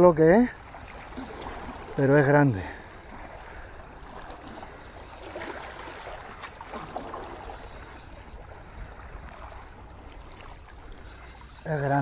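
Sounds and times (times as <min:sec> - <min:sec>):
sea water lapping: 0:00.0 - 0:12.0
faint splashes: 0:00.3 - 0:12.0.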